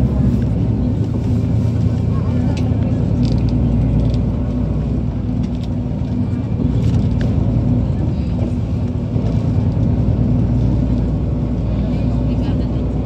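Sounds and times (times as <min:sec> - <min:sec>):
vehicle running low rumble: 0:00.0 - 0:13.0.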